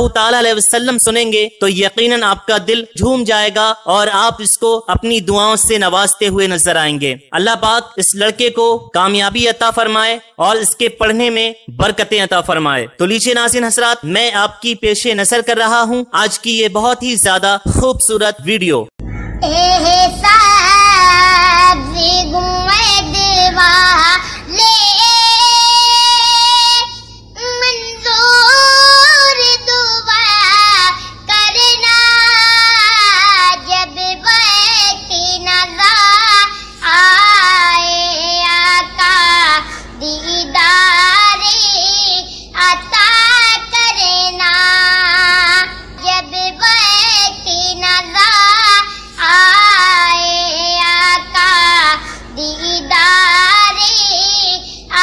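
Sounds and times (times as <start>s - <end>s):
boy singing devotional song: 0.0s - 55.0s.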